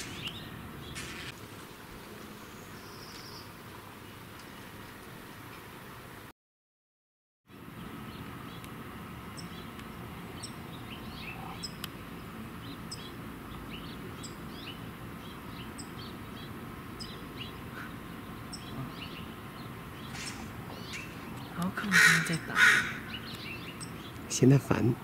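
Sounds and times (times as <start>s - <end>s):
small birds chirping: 0.0s - 1.4s, 2.2s - 4.2s, 7.6s - 25.0s.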